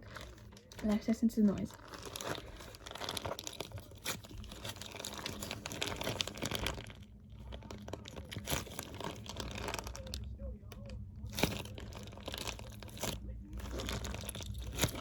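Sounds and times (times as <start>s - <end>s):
plastic squishy bag crinkling: 0.0s - 15.0s.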